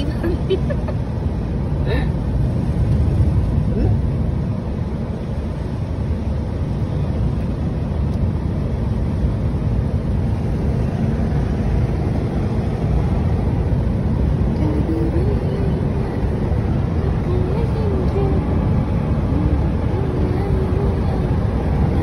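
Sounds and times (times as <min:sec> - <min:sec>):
vehicle interior rumble and hiss: 0:00.0 - 0:22.0.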